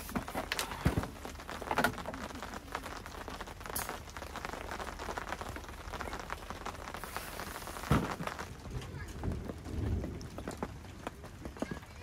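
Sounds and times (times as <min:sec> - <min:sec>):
rain pattering on tent: 0:00.0 - 0:12.0.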